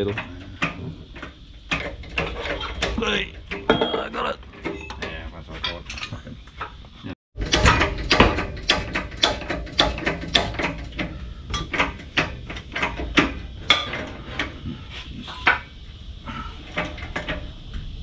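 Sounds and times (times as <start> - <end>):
steel tube clunking: 0.0 - 6.8, 7.4 - 17.8.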